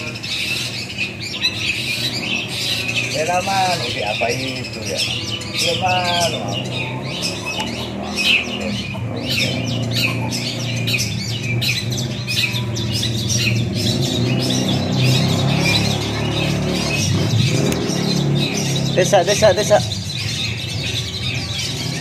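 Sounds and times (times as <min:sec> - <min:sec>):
birds calling sharply: 0:00.0 - 0:22.0.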